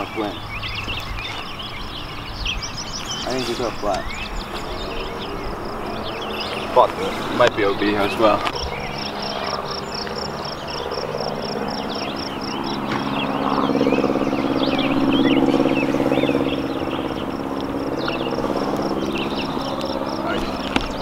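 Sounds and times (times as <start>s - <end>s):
birds chirping: 0.0s - 21.0s
engine hum passing by: 0.0s - 21.0s
insect chirping: 0.0s - 21.0s.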